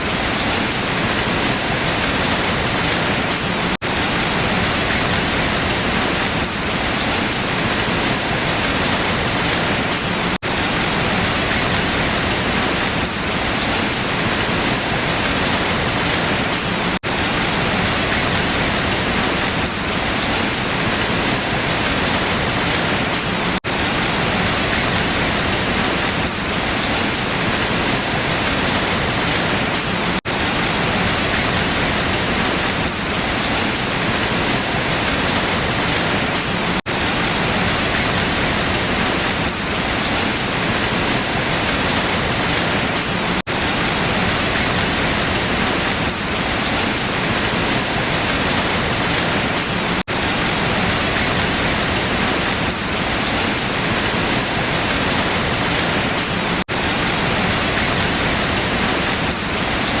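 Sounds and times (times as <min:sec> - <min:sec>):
rain falling through leaves: 0:00.0 - 1:00.0.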